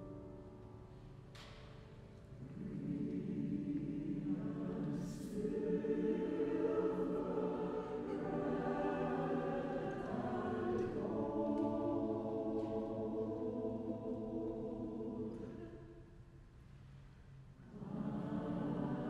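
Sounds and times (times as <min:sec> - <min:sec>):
choir singing sustained chords: 0:02.3 - 0:16.4, 0:17.6 - 0:19.0.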